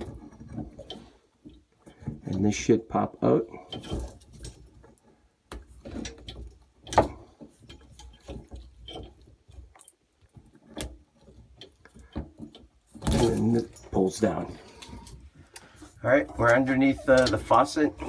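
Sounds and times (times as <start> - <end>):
clicks and knocks handling faucet hose: 0.0 - 18.0.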